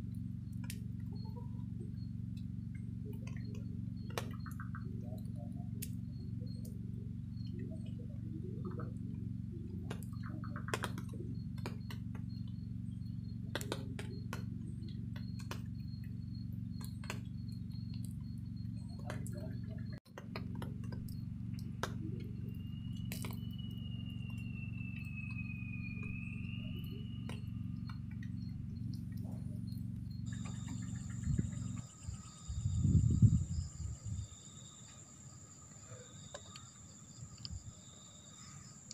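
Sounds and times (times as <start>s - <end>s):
campfire crackling and popping: 0.0s - 32.3s
low steady rumble: 0.0s - 34.4s
crickets chirping: 0.0s - 38.9s.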